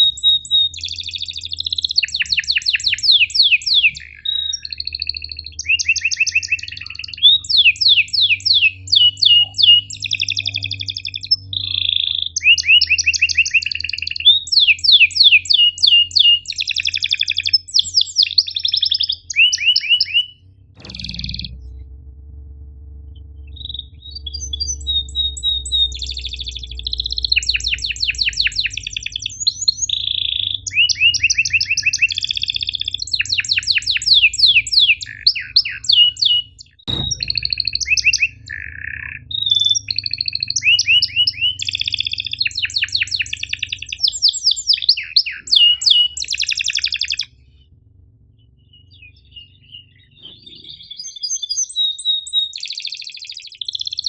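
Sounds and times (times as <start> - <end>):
canary singing trills: 0.0 - 21.8, 23.2 - 54.0.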